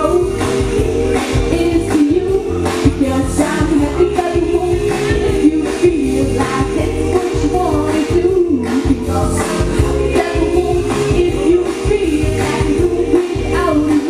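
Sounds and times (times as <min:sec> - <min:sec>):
amplified music with a steady beat: 0:00.0 - 0:14.0
woman singing into a microphone: 0:00.0 - 0:14.0.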